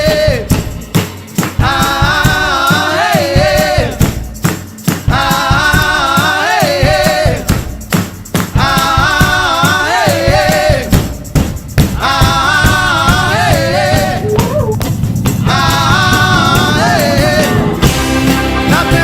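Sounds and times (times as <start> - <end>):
shaker or tambourine: 0.0 - 19.0
upbeat song with singing: 0.0 - 19.0.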